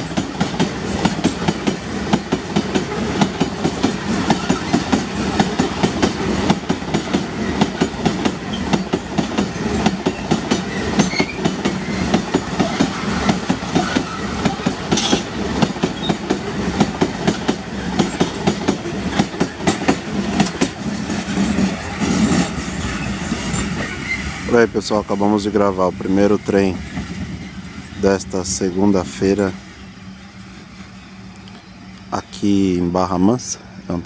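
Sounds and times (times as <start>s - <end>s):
train wheels clattering on rails: 0.0s - 29.8s.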